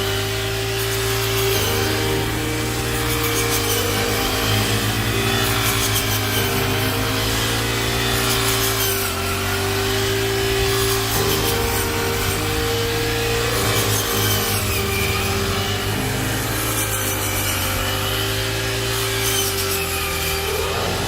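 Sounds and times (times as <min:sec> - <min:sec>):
harsh rasping mechanical noise: 0:00.0 - 0:21.0
harvesting machine engine hum: 0:00.0 - 0:21.0.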